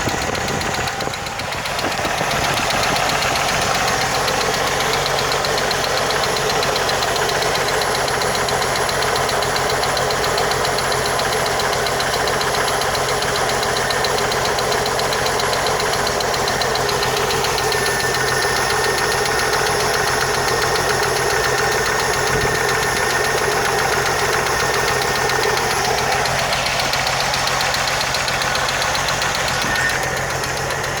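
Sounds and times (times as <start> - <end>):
car engine idling: 0.0 - 31.0
rapid engine ticking: 0.0 - 31.0.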